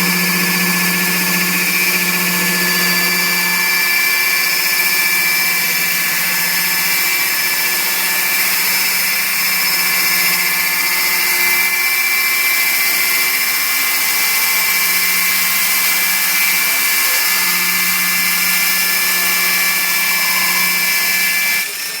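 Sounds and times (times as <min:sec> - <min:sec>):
core drill motor whine: 0:00.0 - 0:22.0.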